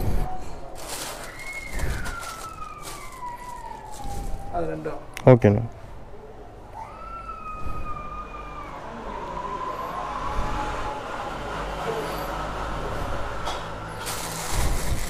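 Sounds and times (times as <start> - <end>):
road traffic rumble: 0.0 - 6.8, 7.4 - 15.0.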